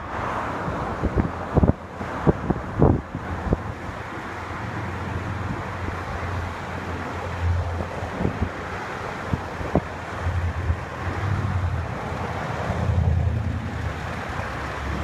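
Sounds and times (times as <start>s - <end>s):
diesel engine humming: 0.0s - 15.0s
wind buffeting microphone: 0.0s - 15.0s.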